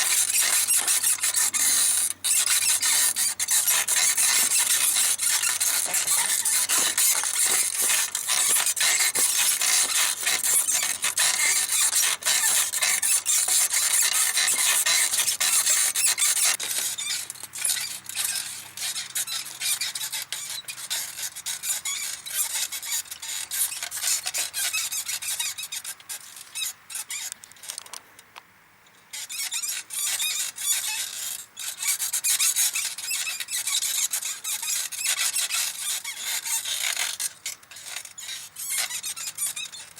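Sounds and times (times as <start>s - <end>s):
bicycle saddle squeaking: 0.0s - 28.0s, 28.9s - 39.9s.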